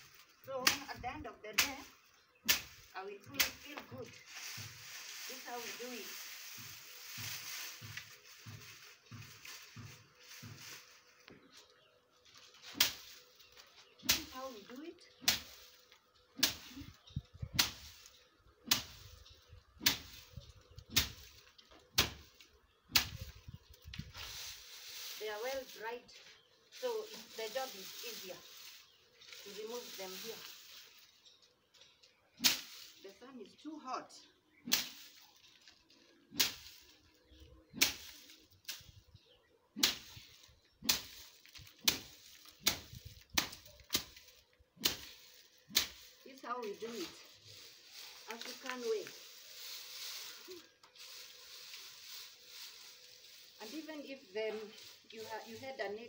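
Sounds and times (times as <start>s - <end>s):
stick slapping dry plants: 0.0s - 33.4s, 34.6s - 39.1s, 39.8s - 56.0s.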